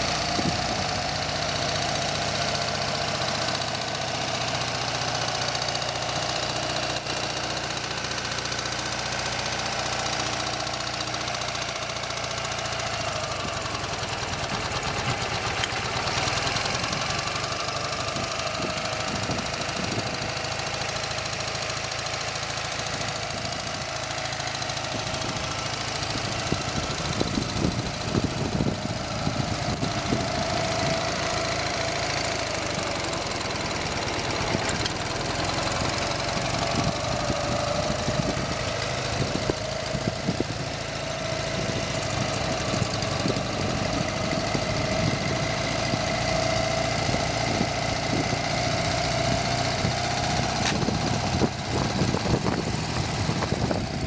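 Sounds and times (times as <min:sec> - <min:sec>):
engine knocks: 0:00.0 - 0:54.0
motorcycle engine idling: 0:00.0 - 0:54.0.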